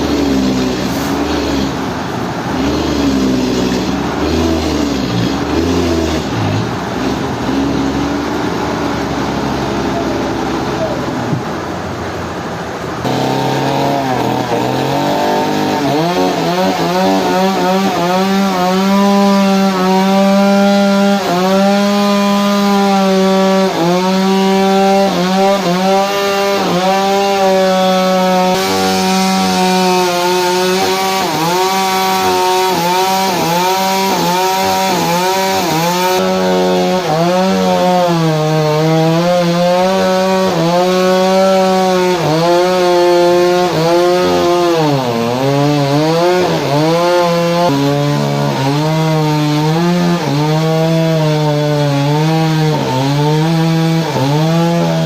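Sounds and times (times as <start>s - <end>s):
power saw cutting wood: 0.0s - 11.6s, 13.0s - 55.0s.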